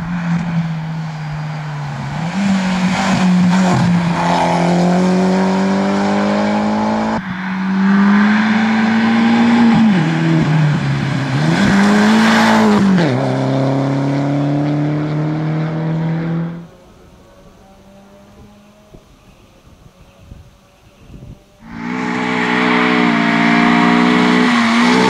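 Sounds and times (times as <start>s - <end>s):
rally car engine revving: 0.0s - 16.8s, 21.6s - 25.0s.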